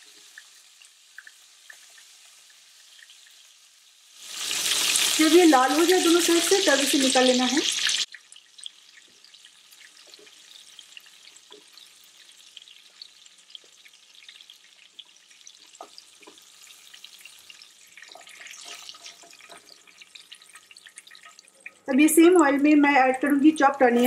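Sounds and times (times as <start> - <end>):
chicken sizzling in oil: 0.0 - 21.9.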